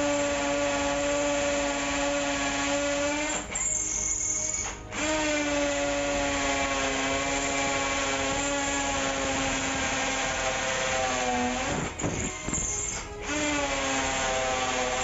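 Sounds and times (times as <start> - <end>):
cordless drill motor whine: 0.0 - 15.0.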